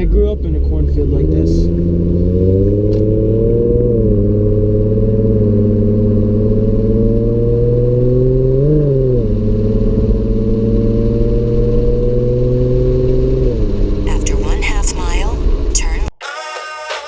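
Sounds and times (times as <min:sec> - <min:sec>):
car engine cruising: 0:00.0 - 0:17.0.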